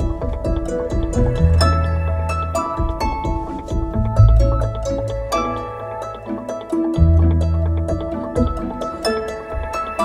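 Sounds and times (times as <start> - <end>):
plucked melody over bass: 0.0 - 10.0.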